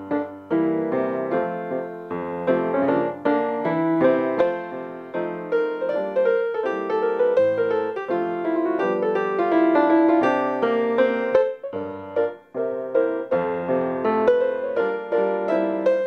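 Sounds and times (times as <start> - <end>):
lively piano music: 0.0 - 16.0.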